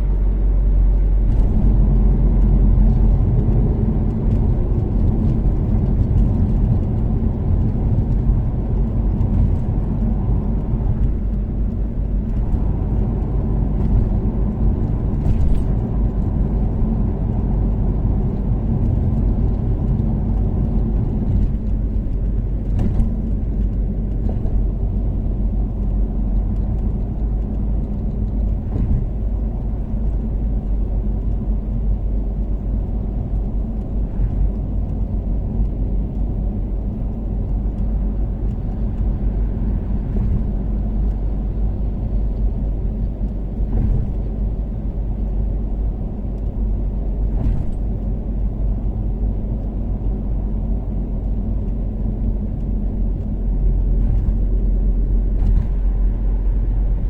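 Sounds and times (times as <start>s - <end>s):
car engine low rumble: 0.0s - 57.0s
tyres cruising on road: 0.0s - 57.0s.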